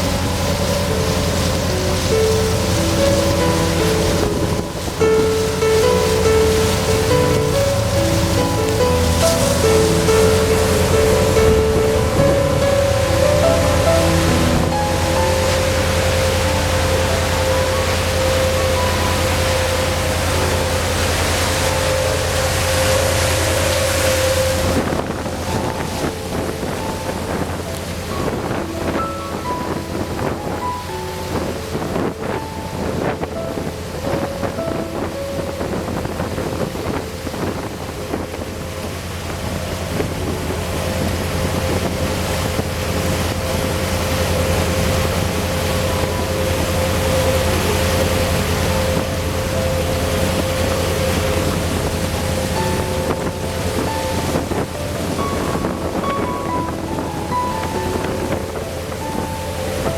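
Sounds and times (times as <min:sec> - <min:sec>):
boat engine throbbing: 0:00.0 - 0:59.9
rushing water: 0:00.0 - 0:59.9
wind noise: 0:00.0 - 0:59.9.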